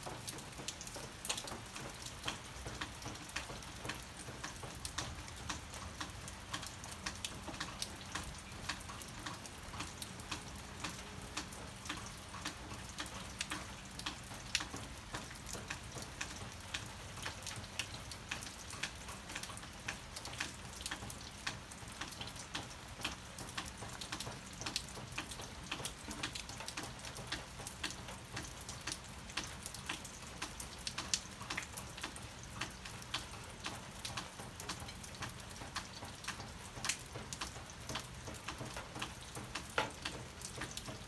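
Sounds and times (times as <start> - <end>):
rain drops ticking: 0.0 - 41.0
steady rain hiss: 0.0 - 41.0.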